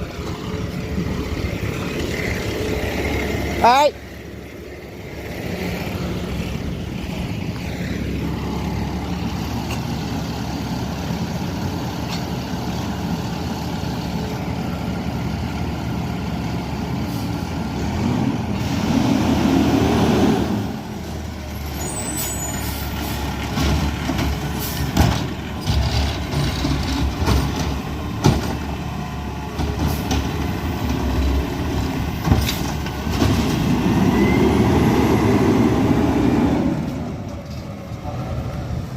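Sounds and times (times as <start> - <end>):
garbage truck diesel engine: 0.0 - 38.9.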